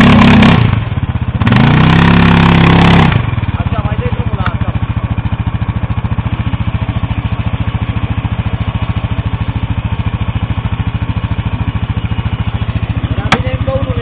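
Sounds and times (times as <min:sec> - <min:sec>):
atv engine idling: 0:00.0 - 0:14.0.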